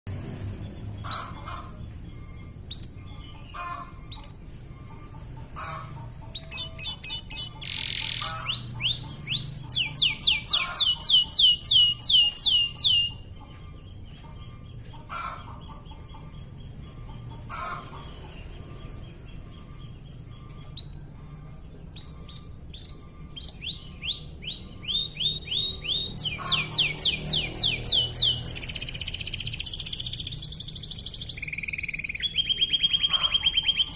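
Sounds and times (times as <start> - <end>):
canary trilling: 0.8 - 33.9.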